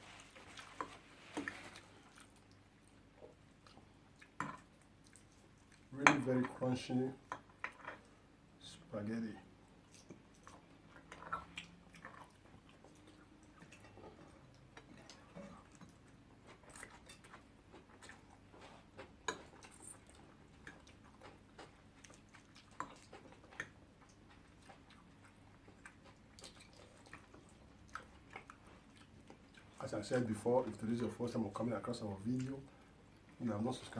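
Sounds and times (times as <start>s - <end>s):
close-up chewing: 0.0s - 5.9s, 9.6s - 33.9s.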